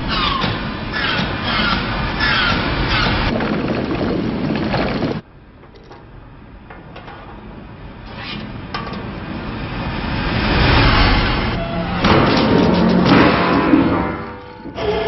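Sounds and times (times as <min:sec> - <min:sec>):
rushing mechanical noise: 0:00.0 - 0:05.3, 0:07.0 - 0:15.0.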